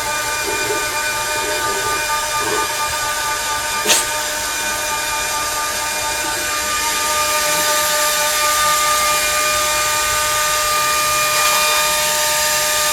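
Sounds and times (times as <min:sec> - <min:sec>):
dog dryer blowing air: 0:00.0 - 0:12.9.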